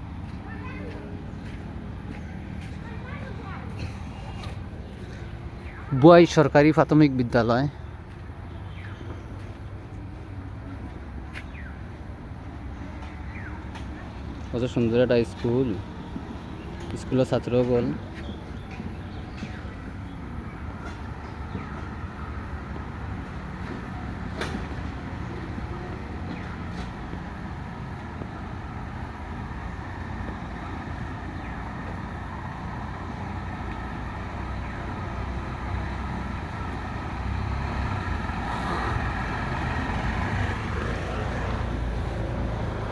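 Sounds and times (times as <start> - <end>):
road noise: 0.0 - 42.9
vehicle engine rumble: 0.0 - 42.9.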